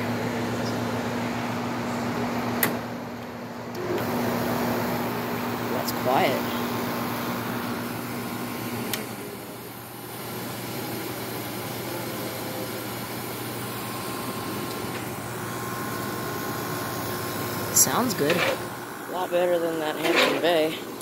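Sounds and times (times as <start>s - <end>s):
air conditioner running: 0.0s - 21.0s.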